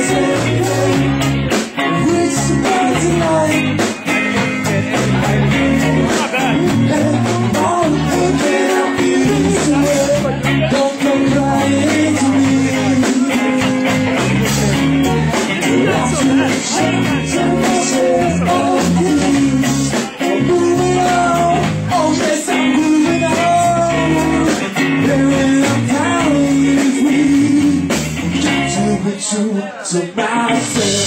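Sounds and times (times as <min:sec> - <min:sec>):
drum beat: 0:00.0 - 0:28.8
bass line: 0:00.0 - 0:29.2, 0:30.2 - 0:31.0
electric guitar: 0:00.0 - 0:29.3, 0:30.0 - 0:31.0
live rock band playing: 0:00.0 - 0:31.0.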